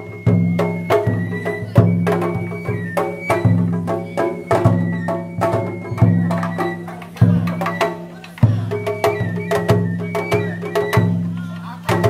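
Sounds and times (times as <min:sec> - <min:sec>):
drums and percussion: 0:00.0 - 0:12.0
high wavering flute melody: 0:00.0 - 0:12.0.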